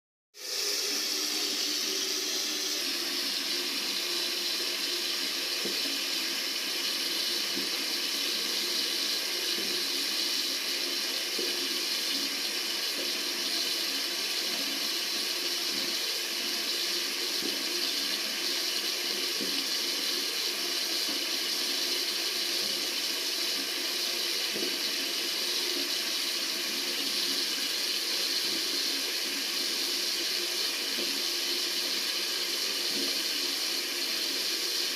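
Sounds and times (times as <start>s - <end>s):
tap water running: 0.4s - 34.9s.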